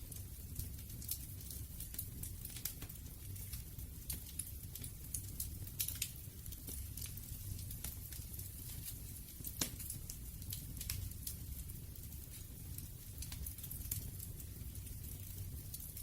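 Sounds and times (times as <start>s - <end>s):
fire crackling and popping: 0.0s - 16.0s
low rumble of flame: 0.0s - 16.0s.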